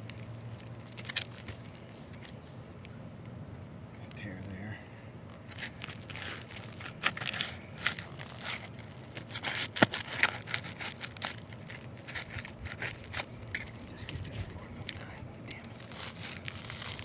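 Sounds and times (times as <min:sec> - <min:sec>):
crinkling and tearing: 0:00.0 - 0:03.0, 0:05.3 - 0:17.0
dry crackles and clicks: 0:00.0 - 0:04.6, 0:05.3 - 0:17.0.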